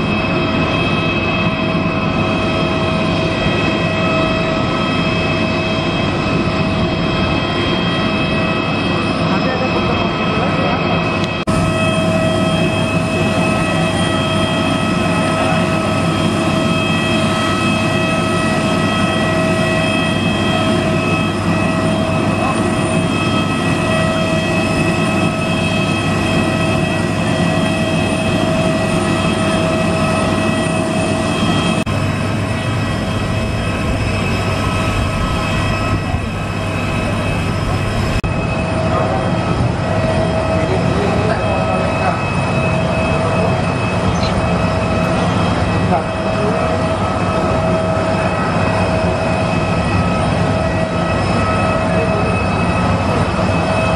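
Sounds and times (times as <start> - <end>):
aircraft turbine whine and roar: 0.0 - 53.9.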